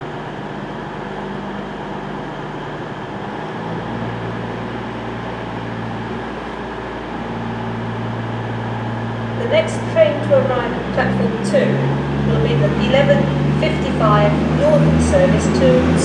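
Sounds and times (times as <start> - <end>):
train diesel engines humming: 0.0 - 16.0.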